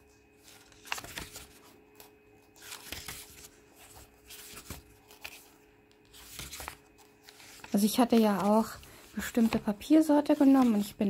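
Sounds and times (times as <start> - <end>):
book pages turning: 0.0 - 11.0.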